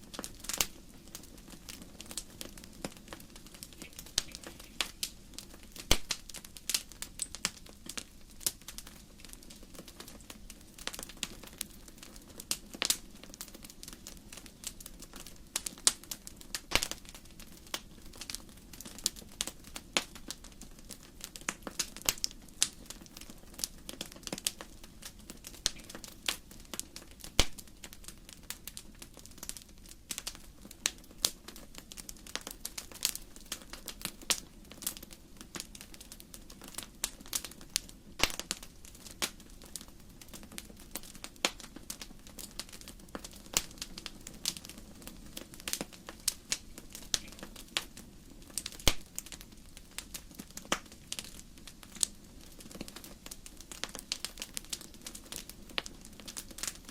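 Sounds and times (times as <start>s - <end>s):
low rumble of flames: 0.0s - 56.9s
wood fire crackling: 0.0s - 56.9s.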